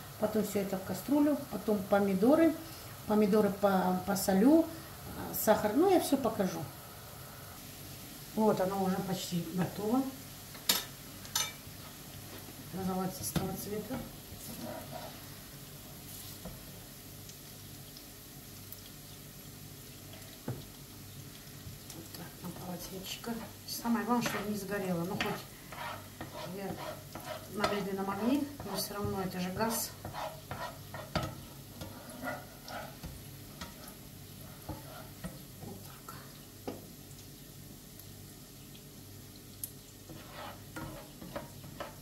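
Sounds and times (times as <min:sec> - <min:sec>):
onion sizzling in frying pan: 0:00.0 - 0:42.0.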